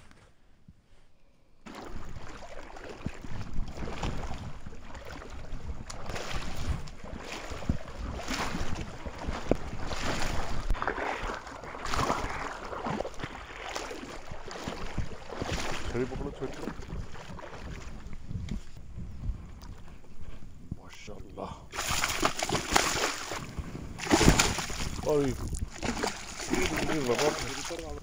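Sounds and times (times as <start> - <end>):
water splashing in shallows: 1.6 - 18.8, 21.7 - 28.0
wind buffeting microphone: 3.0 - 28.0.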